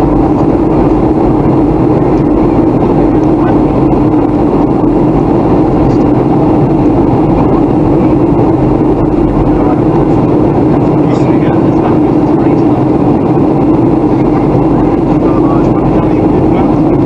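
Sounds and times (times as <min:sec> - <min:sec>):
jet engine drone: 0:00.0 - 0:17.0
low hum: 0:00.0 - 0:17.0
rushing air: 0:00.0 - 0:17.0.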